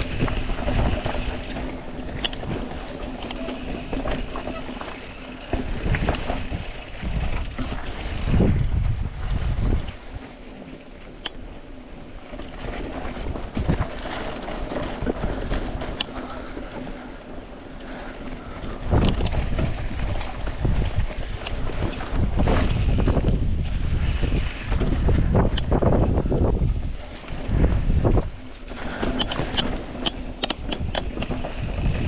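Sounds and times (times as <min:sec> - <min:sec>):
wind buffeting microphone: 0:00.0 - 0:10.3, 0:12.0 - 0:32.0
bike clicks and rattles: 0:00.0 - 0:32.0
bike tyre noise on dirt: 0:00.0 - 0:32.0.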